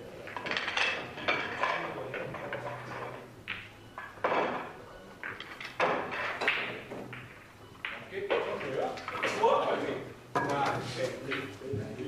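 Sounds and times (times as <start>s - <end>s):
pool balls clacking: 0.0s - 12.0s.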